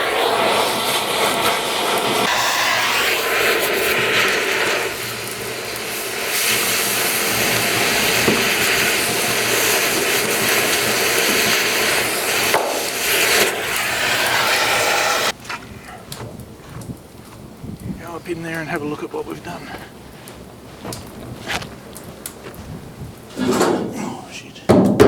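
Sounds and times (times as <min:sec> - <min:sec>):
cutting torch hissing: 0:00.0 - 0:24.7.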